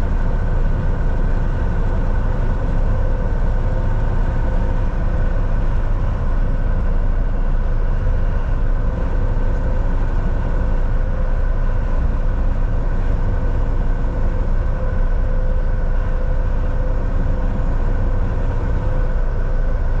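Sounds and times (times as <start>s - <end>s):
truck engine and road drone: 0.0s - 20.0s.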